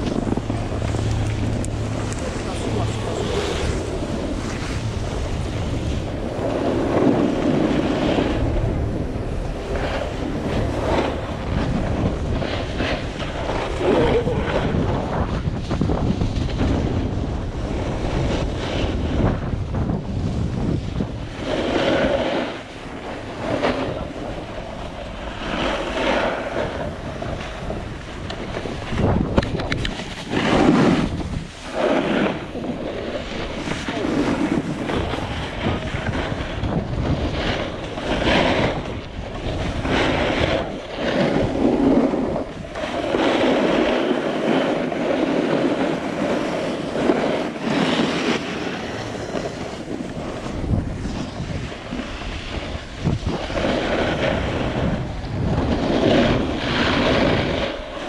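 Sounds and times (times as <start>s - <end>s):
skis scraping on snow: 0.0s - 58.0s
wind buffeting microphone: 0.0s - 58.0s.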